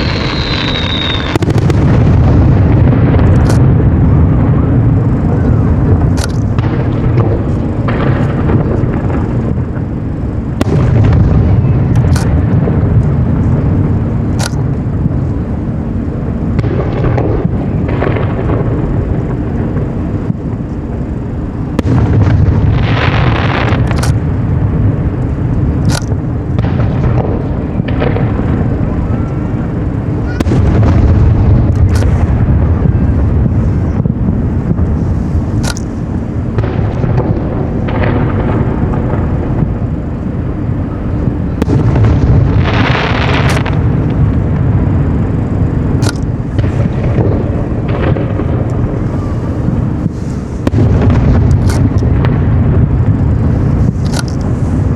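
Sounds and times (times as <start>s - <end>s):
fireworks crackling hiss: 0.0s - 54.9s
fireworks rumbling bursts: 0.0s - 54.9s
fireworks sharp cracks: 0.0s - 54.9s.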